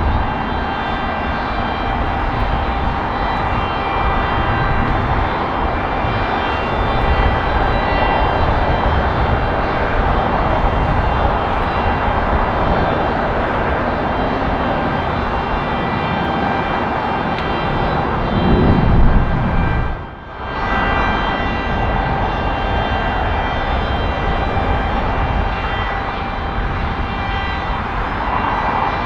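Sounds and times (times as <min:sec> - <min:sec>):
jet engines roaring and whining: 0:00.0 - 0:29.0.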